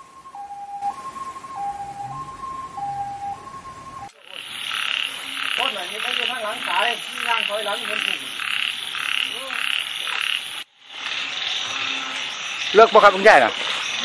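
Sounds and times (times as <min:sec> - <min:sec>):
frogs pulsing croak: 0:00.0 - 0:14.0
frogs wavering calls: 0:00.0 - 0:14.0.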